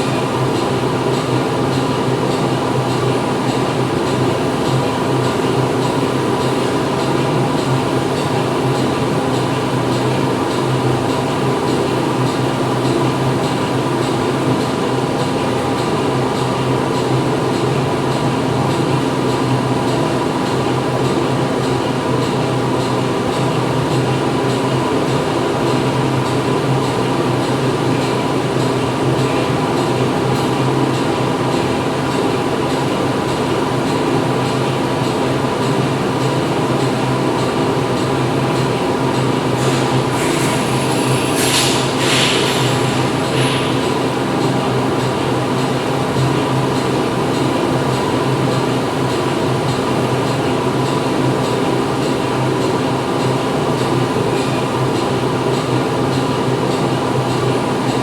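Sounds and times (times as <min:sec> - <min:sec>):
factory machinery running: 0:00.0 - 0:58.0.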